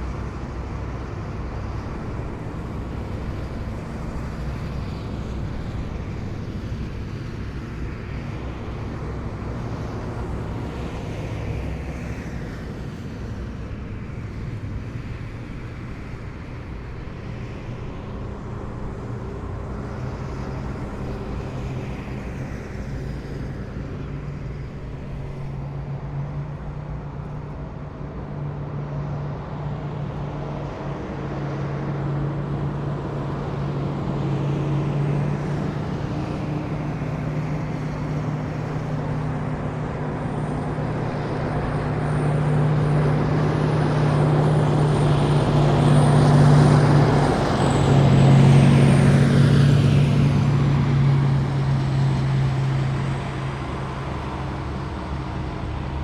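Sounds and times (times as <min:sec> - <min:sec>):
heavy vehicles driving past: 0:00.0 - 0:56.0.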